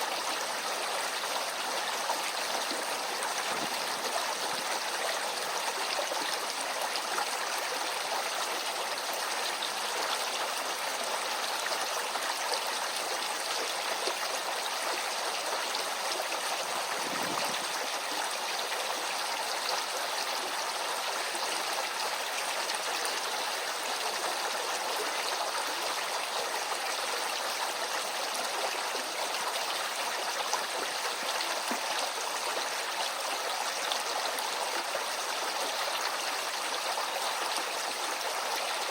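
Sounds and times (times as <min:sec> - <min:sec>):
stream water rushing and trickling: 0:00.0 - 0:38.9.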